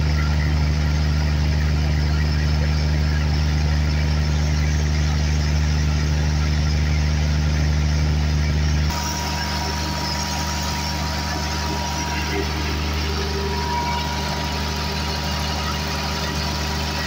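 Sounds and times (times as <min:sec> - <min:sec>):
diesel generator engine running: 0:00.0 - 0:17.0
steady high whine: 0:00.0 - 0:17.0.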